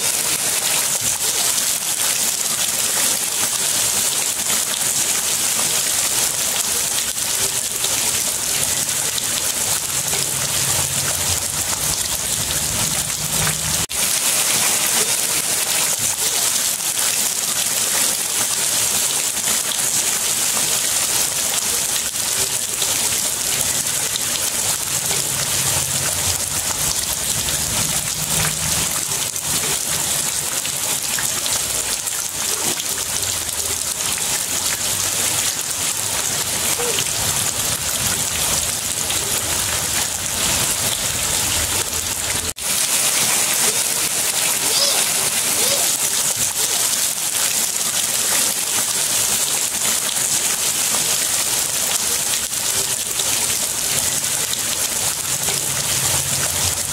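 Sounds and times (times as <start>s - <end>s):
heavy rain on concrete and puddles: 0.0s - 56.9s.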